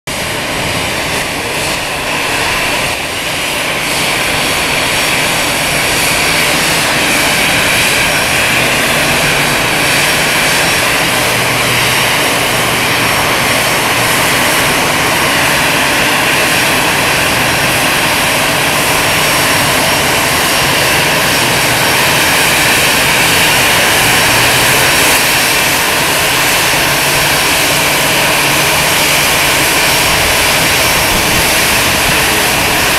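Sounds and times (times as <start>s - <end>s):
jet engines whining: 0.1s - 32.9s.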